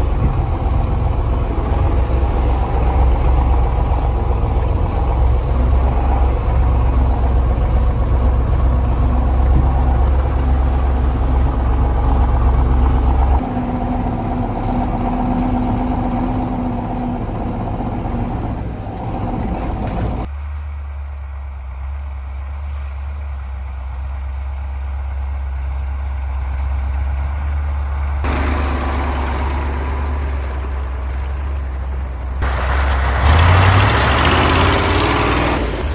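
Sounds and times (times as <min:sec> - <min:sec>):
diesel truck engine running: 0:00.0 - 0:35.9.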